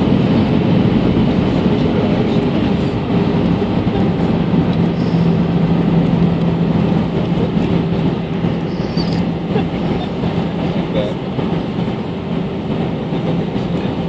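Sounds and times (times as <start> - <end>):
low hum: 0.0 - 12.5
airplane cabin rumble: 0.0 - 14.0.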